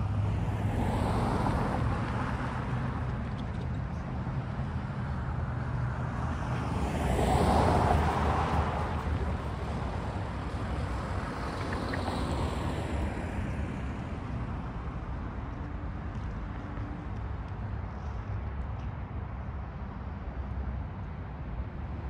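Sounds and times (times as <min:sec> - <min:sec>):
cars passing: 0:00.0 - 0:22.0
low traffic rumble: 0:00.0 - 0:22.0.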